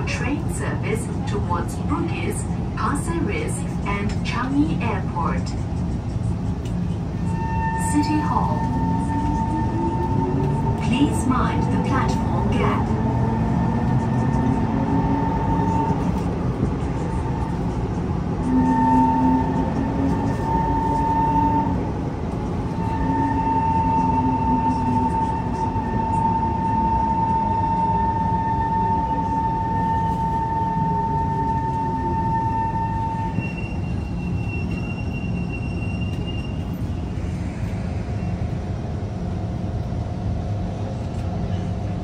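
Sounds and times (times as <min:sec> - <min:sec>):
wheels rumbling on rails: 0:00.0 - 0:42.0.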